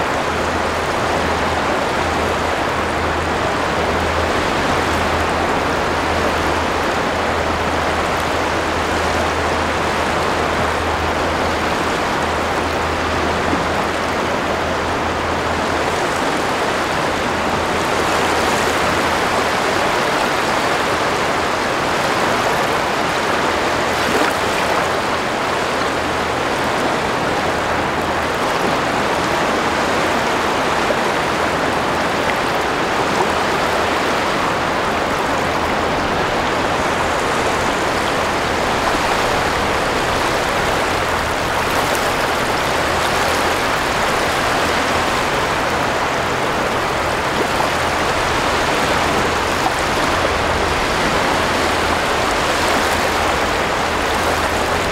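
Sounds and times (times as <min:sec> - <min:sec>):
waves breaking on shore: 0:00.0 - 0:54.9.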